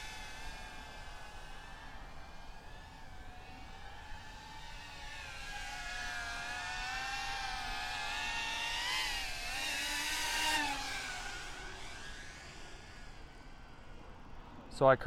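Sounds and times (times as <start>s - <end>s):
drone buzzing whine: 0.0s - 14.8s.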